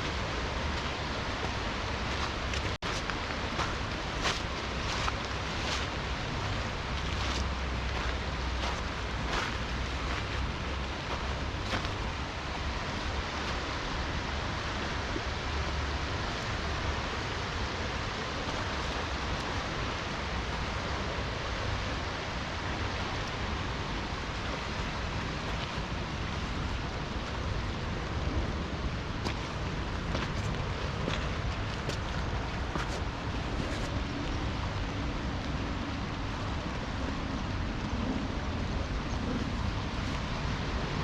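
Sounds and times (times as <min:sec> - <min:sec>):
rain falling: 0:00.0 - 0:41.0
river water flowing: 0:00.0 - 0:41.0
wind rumble on microphone: 0:00.0 - 0:41.0.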